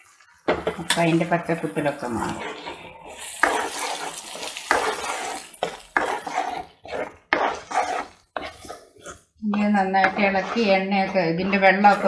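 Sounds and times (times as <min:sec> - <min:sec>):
spatula scraping paste in pan: 0:00.0 - 0:12.0.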